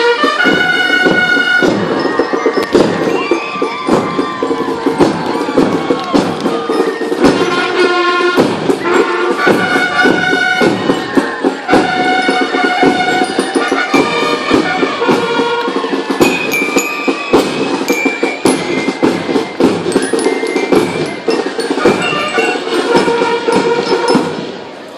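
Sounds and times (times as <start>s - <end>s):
drum hits: 0.3s - 24.6s
bell-like melody: 0.8s - 4.9s, 5.7s - 15.2s, 16.1s - 24.5s.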